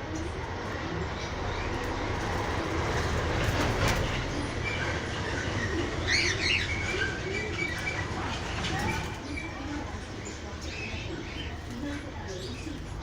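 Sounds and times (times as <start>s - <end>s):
steady rumbling noise: 0.0s - 13.0s.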